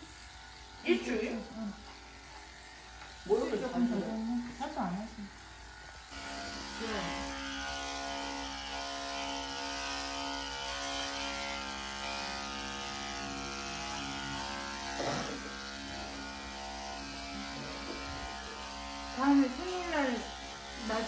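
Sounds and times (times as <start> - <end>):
electric pet clippers buzzing: 0.0 - 21.0.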